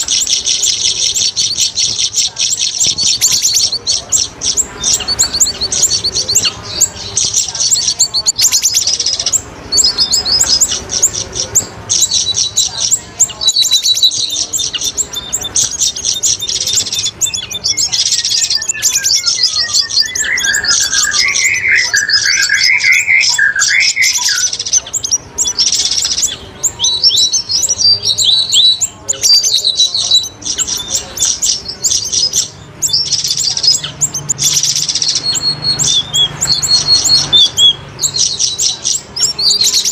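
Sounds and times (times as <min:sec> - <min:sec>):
high bird chirps and trills: 0:00.0 - 0:39.9
lower bird warbling: 0:00.0 - 0:39.9.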